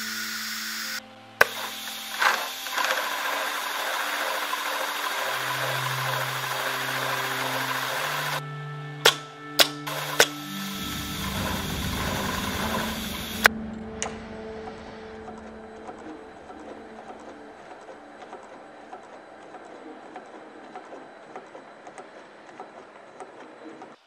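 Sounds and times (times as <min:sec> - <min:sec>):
sewing machine running: 0:00.0 - 0:08.4, 0:09.9 - 0:13.5, 0:15.8 - 0:24.0.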